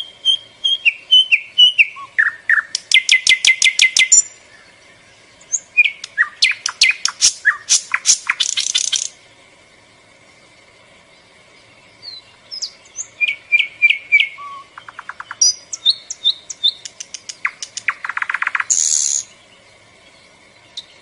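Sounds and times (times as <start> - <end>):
small songbird chirping: 0.0 - 21.0.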